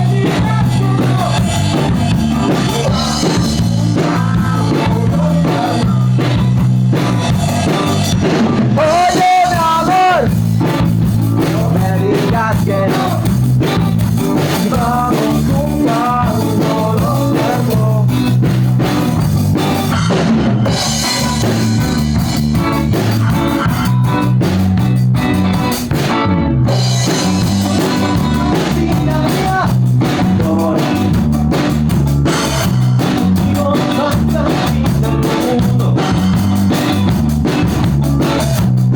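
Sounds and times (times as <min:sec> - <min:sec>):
rock song with singing: 0:00.0 - 0:38.9.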